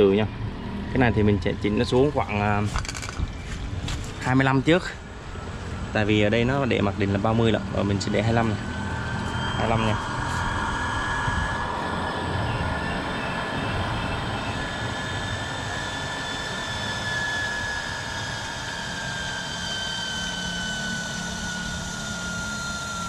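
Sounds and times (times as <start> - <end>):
water pump rumble and whine: 0.0 - 23.0.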